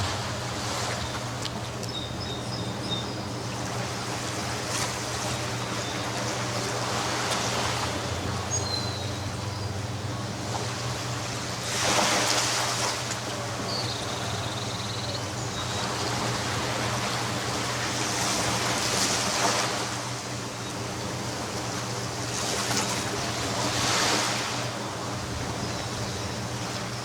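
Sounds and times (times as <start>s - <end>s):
ocean waves breaking: 0.0s - 27.0s.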